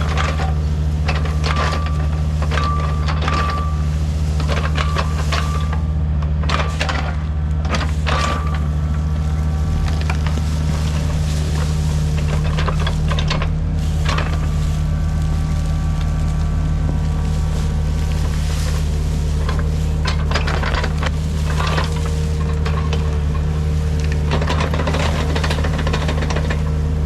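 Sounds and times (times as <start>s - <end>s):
steel attachment clanks and scrapes: 0.0s - 26.8s
diesel engine running: 0.0s - 27.0s.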